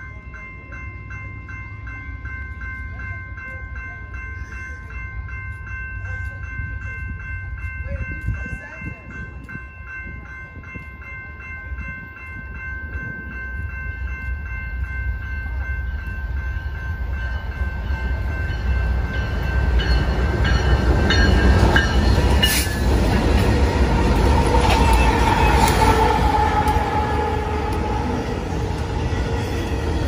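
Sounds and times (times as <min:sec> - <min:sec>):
bell-like ringing: 0:00.0 - 0:30.0
diesel locomotives rumbling: 0:00.0 - 0:30.0.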